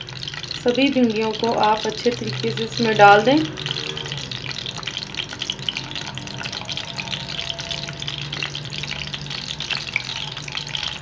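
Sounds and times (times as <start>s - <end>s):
okra sizzling in hot oil: 0.0s - 11.0s.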